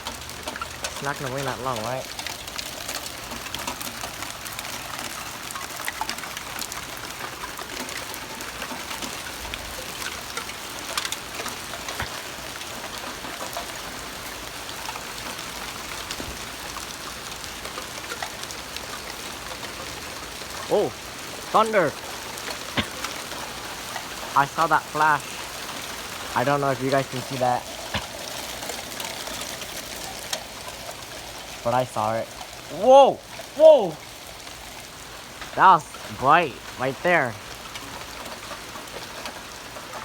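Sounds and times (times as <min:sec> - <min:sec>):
heavy rain falling: 0:00.0 - 0:40.0
raindrops ticking on hard surfaces: 0:00.0 - 0:40.0.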